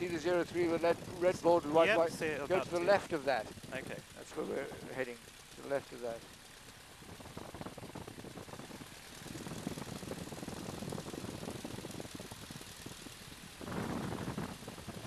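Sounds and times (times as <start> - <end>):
aircraft piston engine chugging: 0.0 - 15.0.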